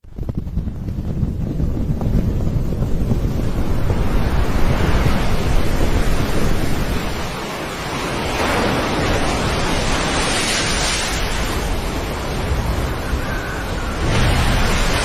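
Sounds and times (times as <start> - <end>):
wind buffeting microphone: 0.0 - 15.0
surf washing: 2.6 - 15.0.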